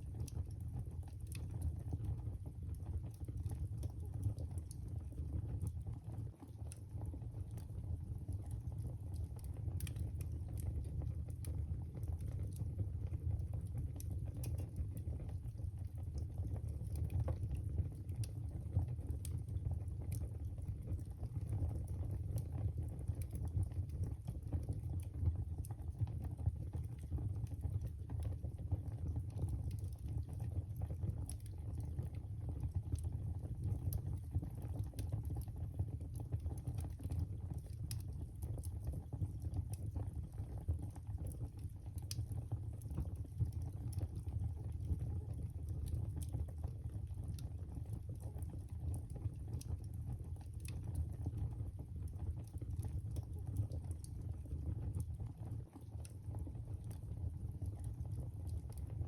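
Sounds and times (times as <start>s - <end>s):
fire crackling and popping: 0.0s - 58.9s
fire rumbling: 0.1s - 56.6s.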